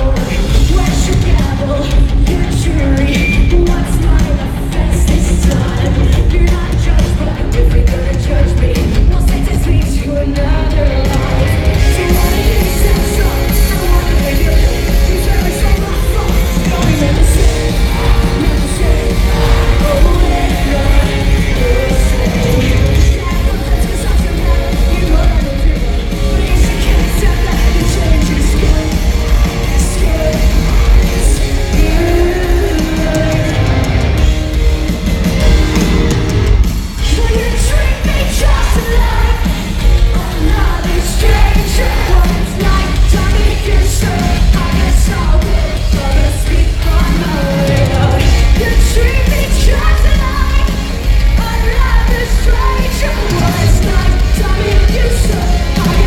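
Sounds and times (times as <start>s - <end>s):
woman singing lead: 0.0s - 34.7s, 36.8s - 56.0s
crowd yelling along: 0.0s - 56.0s
live rock band playing: 0.0s - 56.0s.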